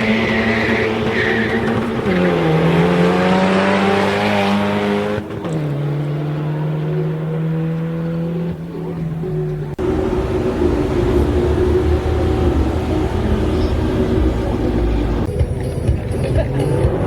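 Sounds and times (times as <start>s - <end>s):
car engine at high revs: 0.0s - 15.4s
tyres squealing: 0.0s - 17.0s.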